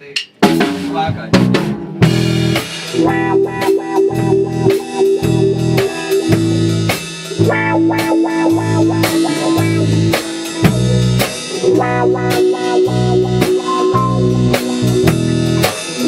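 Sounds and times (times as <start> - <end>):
drum kit strokes: 0.0 - 16.0
rock band instrumental: 0.0 - 16.0
electric guitar riff: 0.4 - 16.0.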